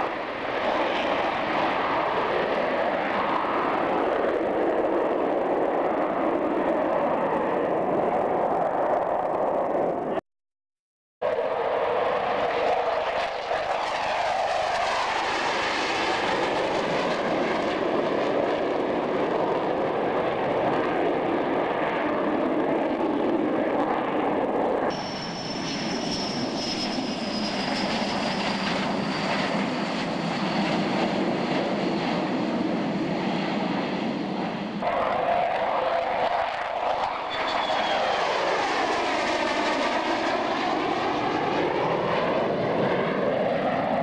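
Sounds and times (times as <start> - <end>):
jet engines roaring: 0.0 - 10.2, 11.2 - 44.0.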